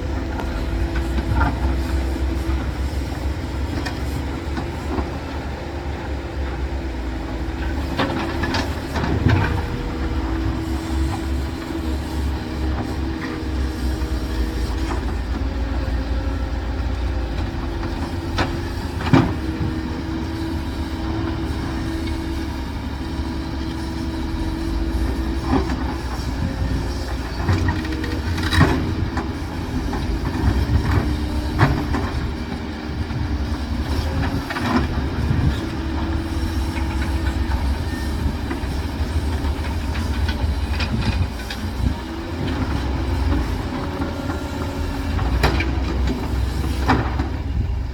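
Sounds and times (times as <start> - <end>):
diesel machinery rumbling: 0.0 - 47.9.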